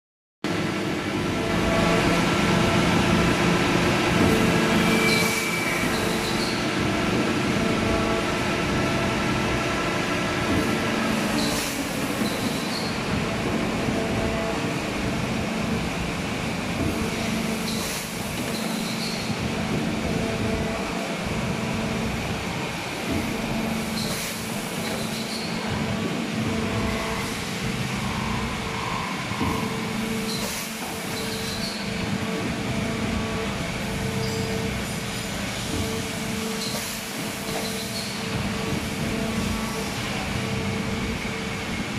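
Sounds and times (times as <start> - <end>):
hydraulic machine hum: 0.5 - 41.9
machine clack and hiss: 0.5 - 41.9.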